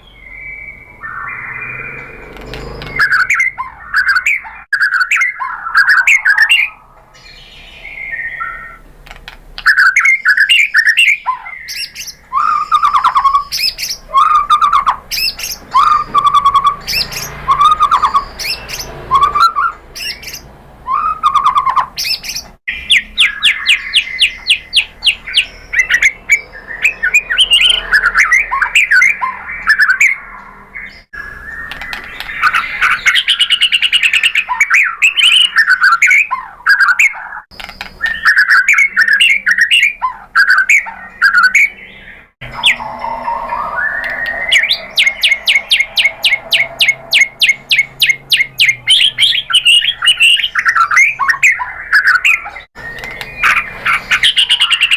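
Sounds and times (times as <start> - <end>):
bird singing whistled phrases: 0.0 - 8.8, 9.6 - 54.9.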